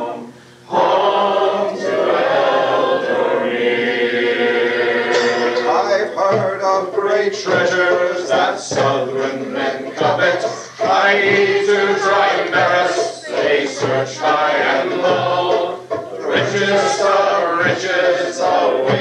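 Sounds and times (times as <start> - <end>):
choir singing unaccompanied: 0.0 - 19.0.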